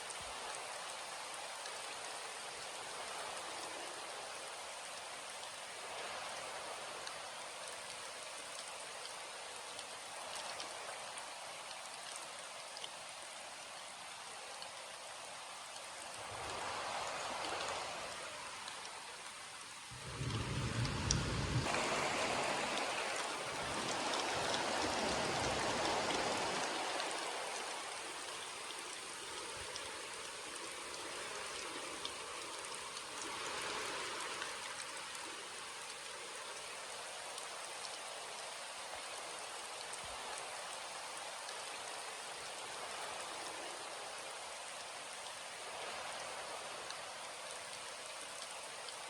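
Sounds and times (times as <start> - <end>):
rain pattering: 0.0 - 49.0.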